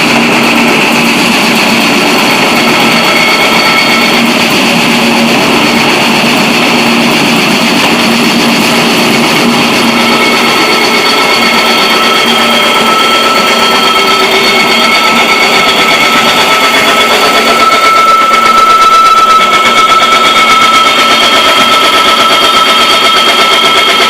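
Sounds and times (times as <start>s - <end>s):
roller mill running: 0.0s - 24.0s.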